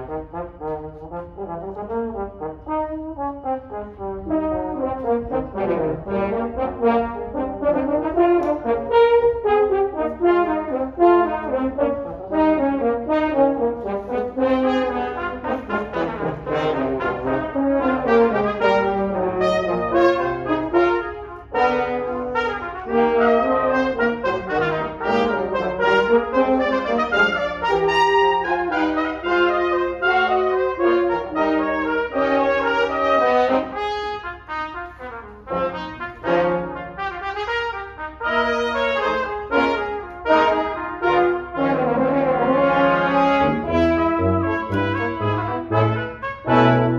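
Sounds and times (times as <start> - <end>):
brass ensemble playing: 0.0 - 46.9.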